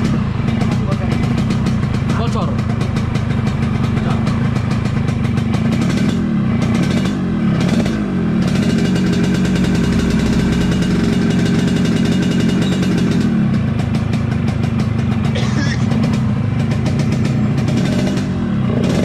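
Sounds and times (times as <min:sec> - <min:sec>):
two-stroke engine idling: 0:00.0 - 0:19.0.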